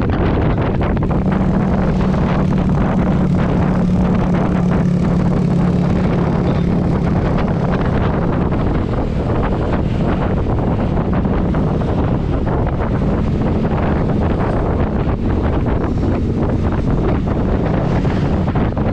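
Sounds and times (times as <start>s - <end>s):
vehicle engine hum: 0.0s - 18.9s
wind noise on microphone: 0.0s - 18.9s.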